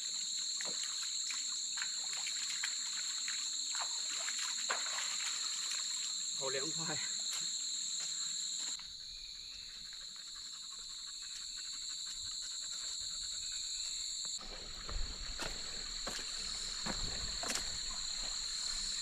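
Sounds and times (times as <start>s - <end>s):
insect chorus shrill buzz: 0.0s - 19.0s.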